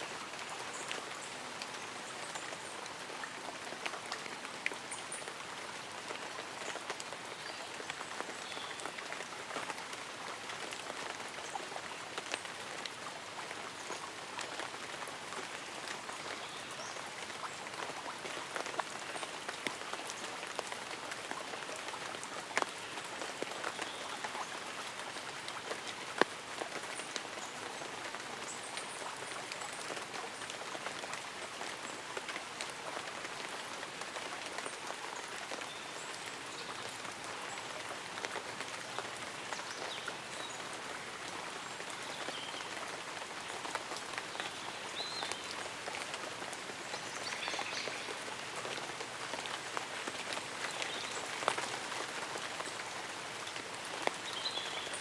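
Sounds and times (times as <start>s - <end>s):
light rain pattering on leaves: 0.0s - 55.0s.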